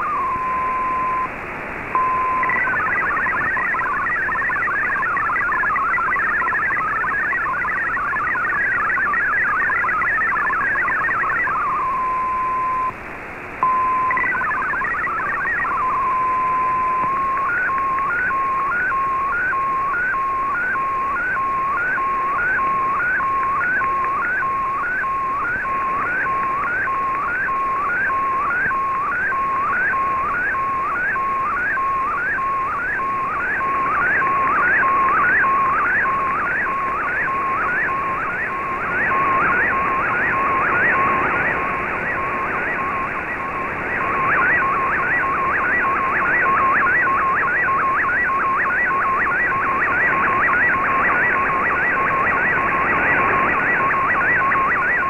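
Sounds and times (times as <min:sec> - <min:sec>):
warbling data tones: 0:01.9 - 0:13.0, 0:13.6 - 0:55.0.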